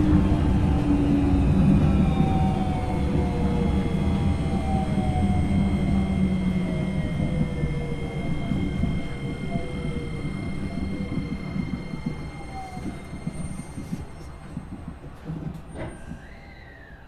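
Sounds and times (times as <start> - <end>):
train motor whine: 0.0 - 17.0.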